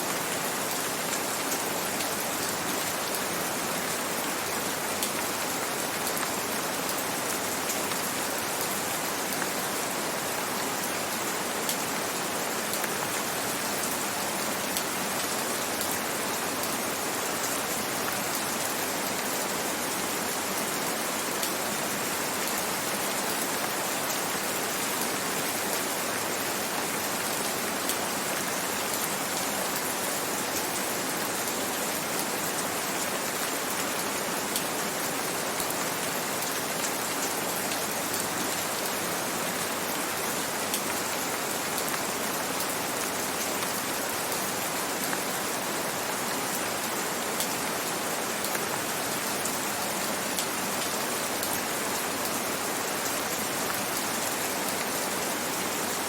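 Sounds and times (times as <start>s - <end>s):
gentle rain with raindrop patter: 0.0s - 56.0s.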